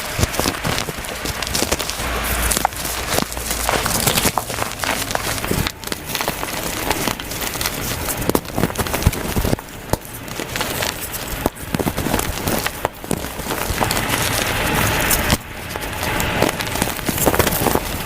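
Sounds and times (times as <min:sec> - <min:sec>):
chalk being crushed: 0:00.0 - 0:18.0.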